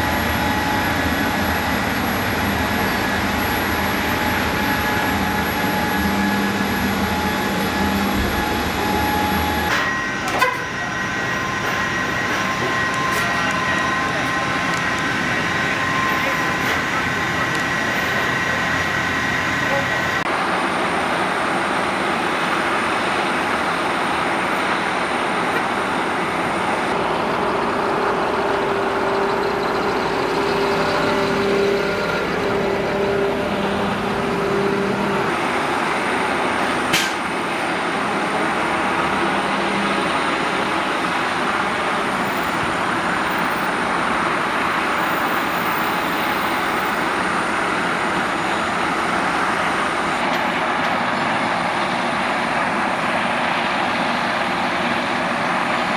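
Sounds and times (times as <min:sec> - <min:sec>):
diesel engine hum: 0:00.0 - 0:55.9
loud steady jet noise: 0:00.0 - 0:55.9.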